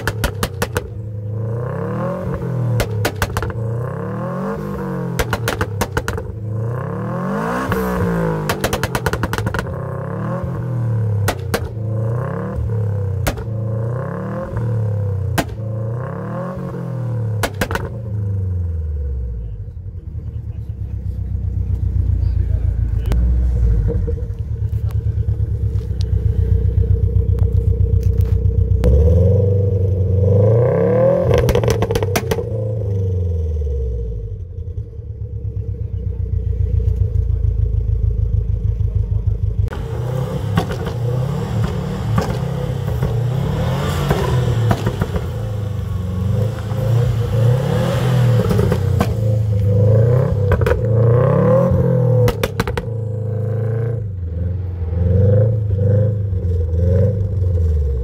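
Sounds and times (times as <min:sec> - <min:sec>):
car engine idling: 0:00.0 - 0:30.6, 0:31.3 - 0:58.0
car engine revving: 0:00.0 - 0:58.0.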